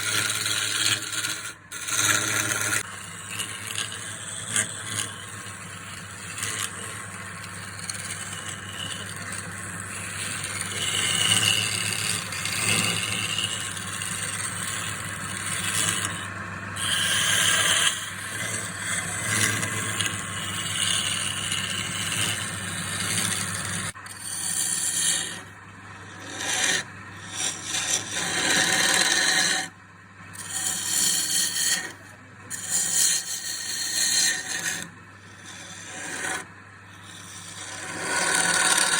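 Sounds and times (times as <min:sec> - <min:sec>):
tool scraping spinning wood: 0:00.0 - 0:38.9
wood lathe motor hum: 0:00.0 - 0:38.9.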